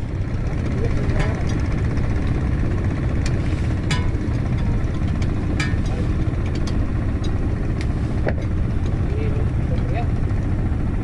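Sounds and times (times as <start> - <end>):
small boat engine idling: 0.0 - 11.0.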